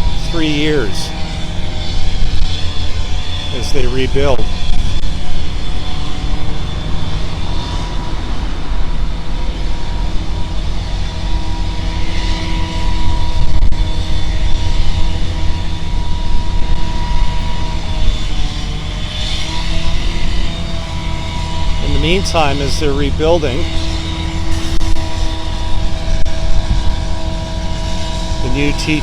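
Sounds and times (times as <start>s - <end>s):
engine drone: 0.0s - 29.0s
loud low rumble: 0.0s - 29.0s.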